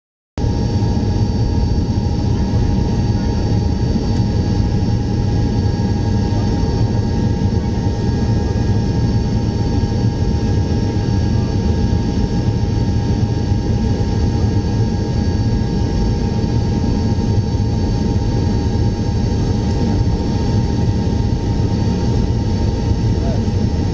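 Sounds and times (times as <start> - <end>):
high engine whines: 0.4 - 23.9
jet engines rumbling: 0.4 - 23.9.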